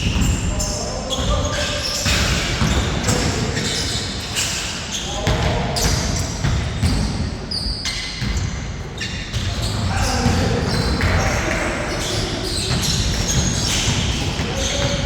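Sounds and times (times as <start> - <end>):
basketball bouncing in hall: 0.0 - 15.0.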